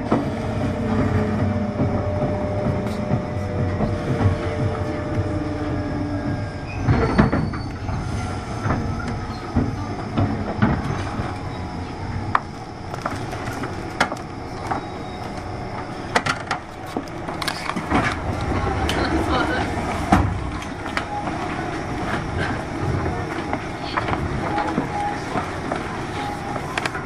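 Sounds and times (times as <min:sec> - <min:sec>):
faint falling whine: 0:00.0 - 0:25.3
electric train running rumble: 0:00.0 - 0:27.0.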